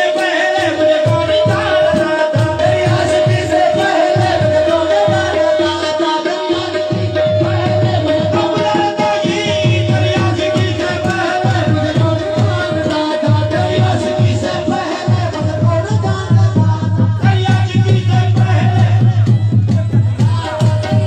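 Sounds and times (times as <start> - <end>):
fast tabla drumming: 0.0 - 21.0
people singing: 0.0 - 21.0.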